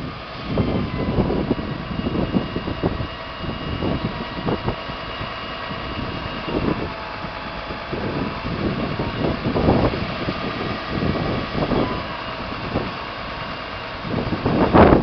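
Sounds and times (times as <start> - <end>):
truck engine whining and rumbling: 0.0 - 15.0.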